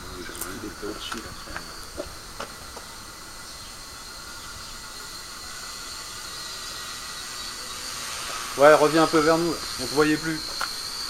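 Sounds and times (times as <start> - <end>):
steady hiss: 0.0 - 11.0
thin high whine: 0.0 - 11.0.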